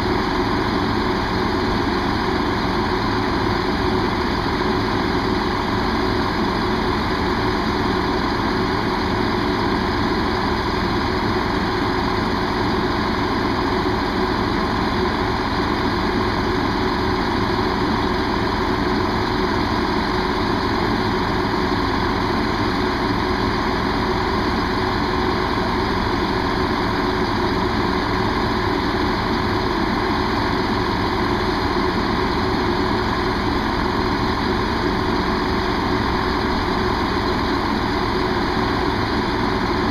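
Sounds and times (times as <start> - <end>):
diesel train engine idling: 0.0 - 39.9.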